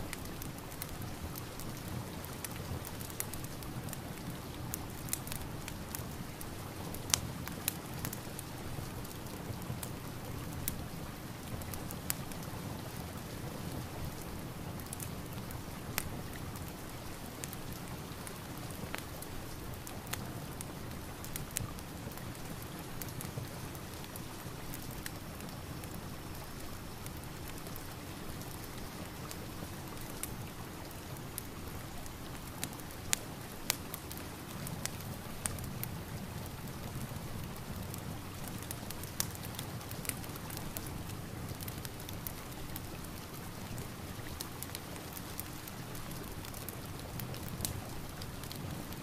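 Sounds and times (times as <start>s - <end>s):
fireplace crackling: 0.0s - 49.0s
steady rain: 0.0s - 49.0s.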